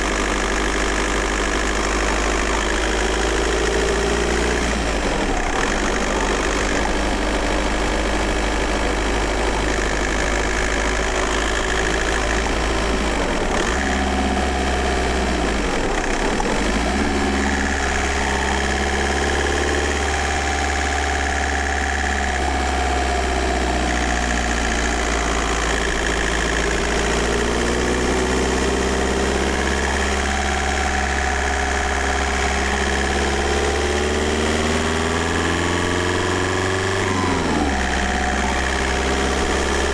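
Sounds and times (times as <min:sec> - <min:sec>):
diesel car engine running: 0:00.0 - 0:39.9.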